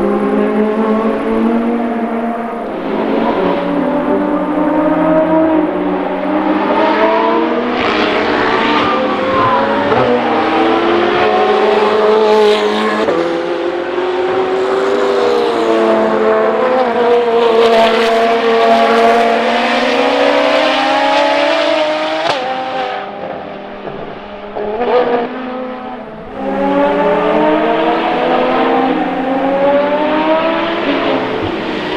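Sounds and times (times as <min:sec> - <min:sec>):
car engine at speed: 0:00.0 - 0:31.9.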